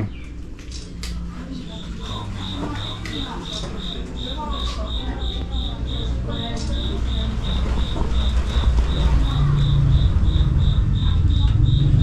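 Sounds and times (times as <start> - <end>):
insect chirping: 1.7 - 12.0.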